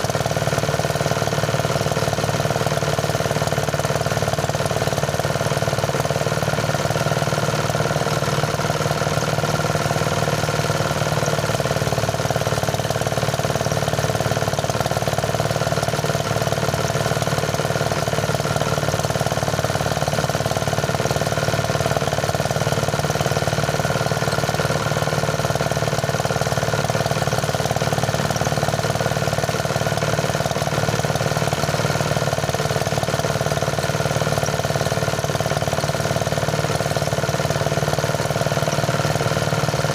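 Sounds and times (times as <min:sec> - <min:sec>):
rice thresher mechanical drone: 0:00.0 - 0:39.9.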